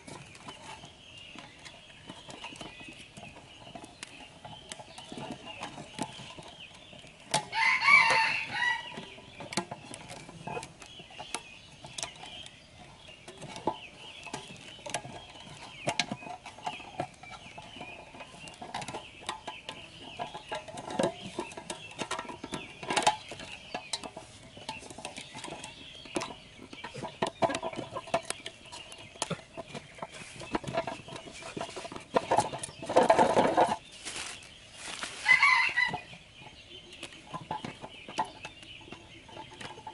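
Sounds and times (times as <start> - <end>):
chickens clucking: 0.0 - 39.9
string rustling around metal tin: 0.0 - 39.9.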